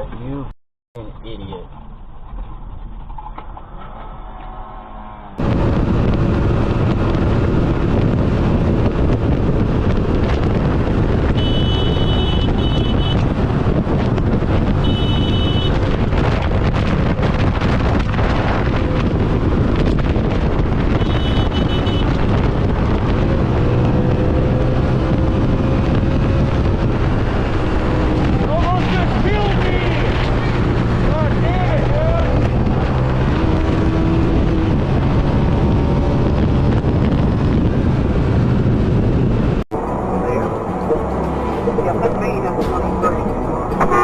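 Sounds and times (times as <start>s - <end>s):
wind and road rush: 0.0s - 44.0s.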